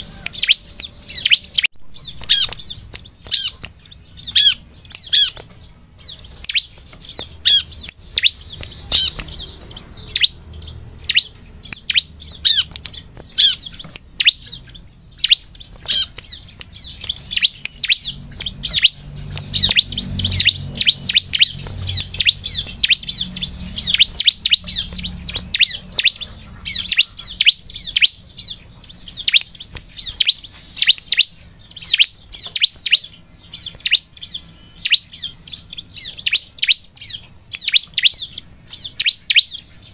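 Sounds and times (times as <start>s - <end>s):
bird singing high chirps: 0.0s - 39.9s
sharp clicks: 0.2s - 39.7s.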